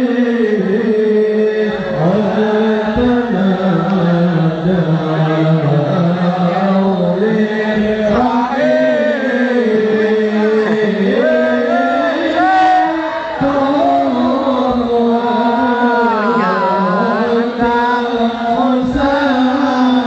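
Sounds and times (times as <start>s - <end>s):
devotional chanting: 0.0s - 20.0s.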